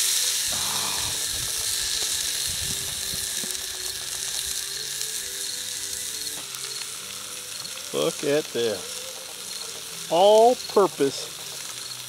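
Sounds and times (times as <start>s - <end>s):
chicken sizzling in grease: 0.0s - 12.0s.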